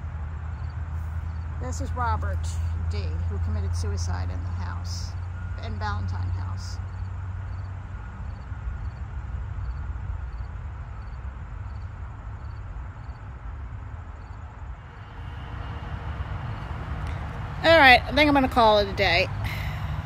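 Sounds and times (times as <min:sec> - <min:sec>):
distant city traffic rumble: 0:00.0 - 0:20.0.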